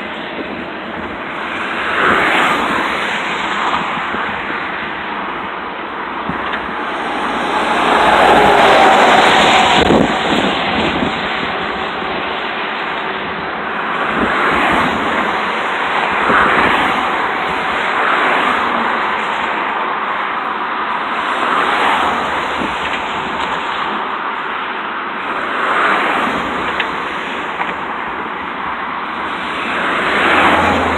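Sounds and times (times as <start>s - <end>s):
combine harvester running: 0.0s - 30.9s.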